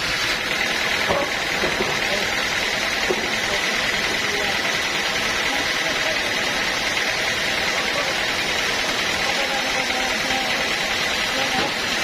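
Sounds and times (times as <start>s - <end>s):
machine running: 0.0s - 12.0s.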